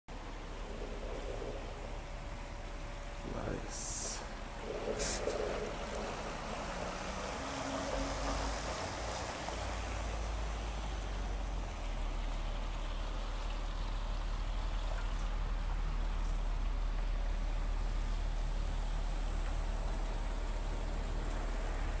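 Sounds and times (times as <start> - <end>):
bus engine rumble: 0.1 - 22.0
tyres hissing on wet road: 0.1 - 22.0.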